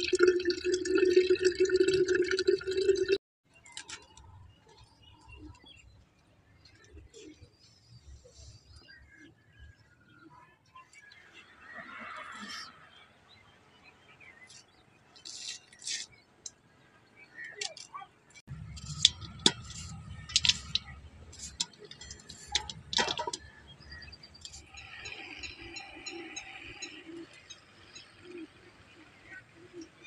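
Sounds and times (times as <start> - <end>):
birds chirping: 3.5 - 30.0.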